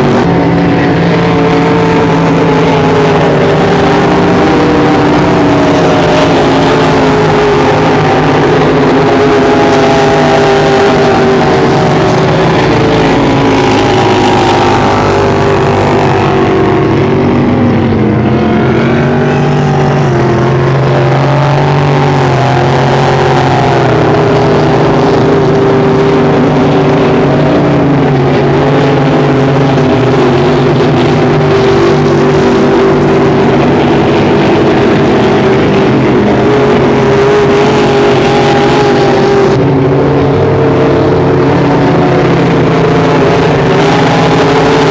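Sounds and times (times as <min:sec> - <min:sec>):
racing speedboat engines passing: 0:00.0 - 0:44.9.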